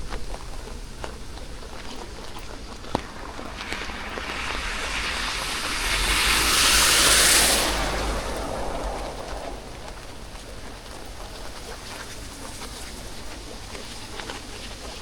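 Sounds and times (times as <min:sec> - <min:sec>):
vehicle rumble: 0:00.0 - 0:14.8
tyres hissing on wet road: 0:00.0 - 0:15.0.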